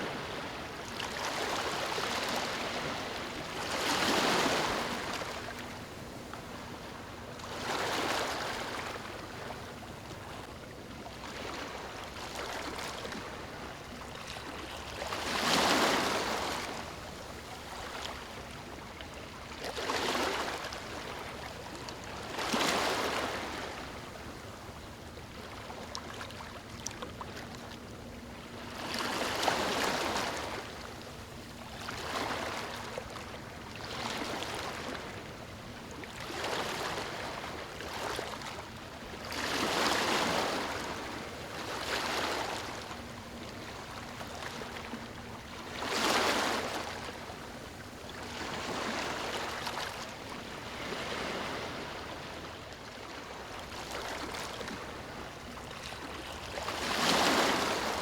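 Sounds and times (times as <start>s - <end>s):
small waves lapping on a beach: 0.0s - 58.0s.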